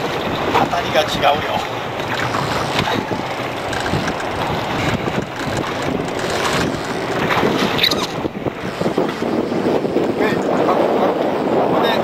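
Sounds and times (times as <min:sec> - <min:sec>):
sea water washing: 0:00.0 - 0:12.0
wind buffeting microphone: 0:00.0 - 0:12.0.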